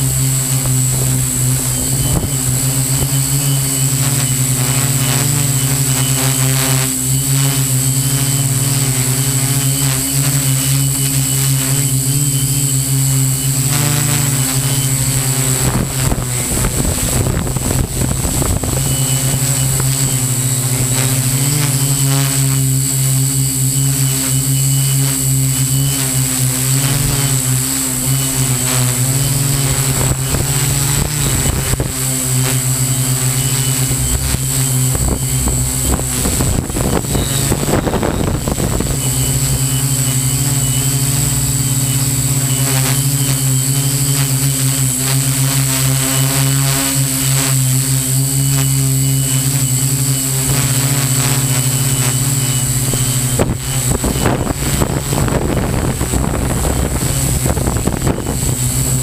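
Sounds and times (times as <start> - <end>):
rush of noise: 0.0 - 6.2, 6.8 - 45.3, 48.6 - 59.0
drone motors humming and whining: 0.0 - 59.0.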